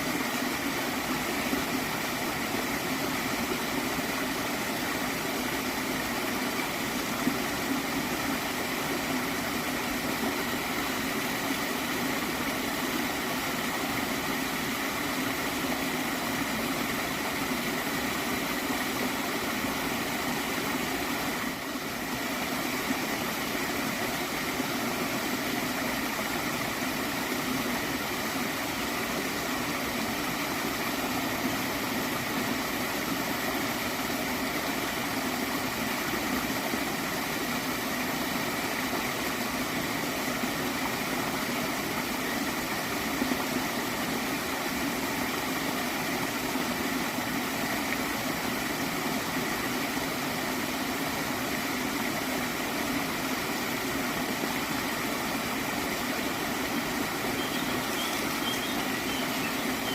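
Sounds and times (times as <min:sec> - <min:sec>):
water stream gurgling: 0:00.0 - 0:59.9.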